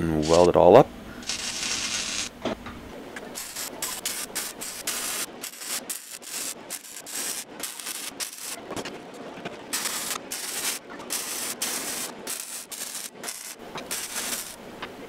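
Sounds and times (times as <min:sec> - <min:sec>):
welding arc crackling and hissing: 0:00.0 - 0:02.5, 0:03.2 - 0:08.8, 0:09.7 - 0:14.6.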